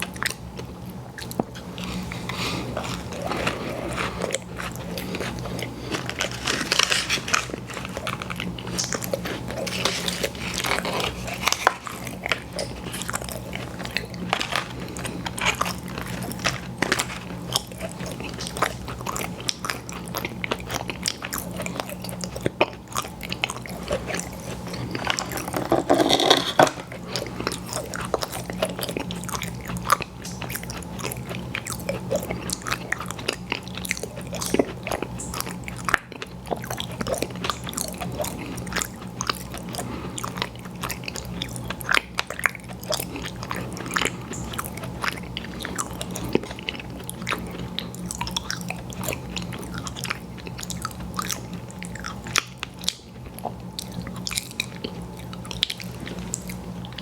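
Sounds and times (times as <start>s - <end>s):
person chewing and eating: 0.0s - 57.0s.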